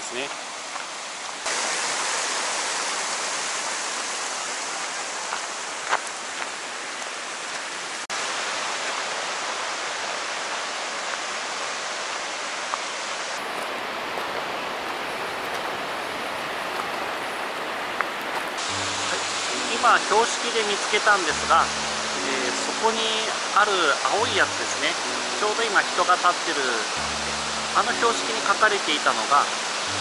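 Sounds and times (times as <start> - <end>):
meltwater rushing: 0.0 - 30.0.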